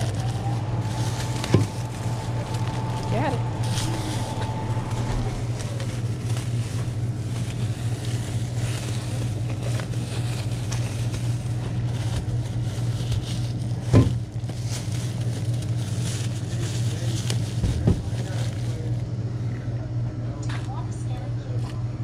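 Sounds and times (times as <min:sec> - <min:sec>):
items being handled: 0:00.0 - 0:19.1
plastic bags rustling: 0:00.0 - 0:19.1
steady low hum: 0:00.0 - 0:22.0.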